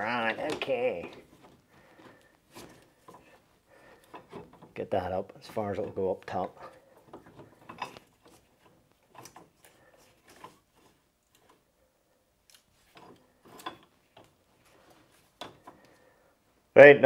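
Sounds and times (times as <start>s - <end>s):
faint clicks and knocks: 0.0s - 11.7s, 12.4s - 16.2s.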